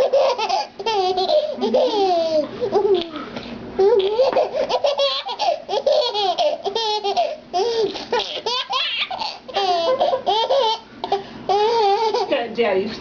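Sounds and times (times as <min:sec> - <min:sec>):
baby laughing: 0:00.0 - 0:12.3.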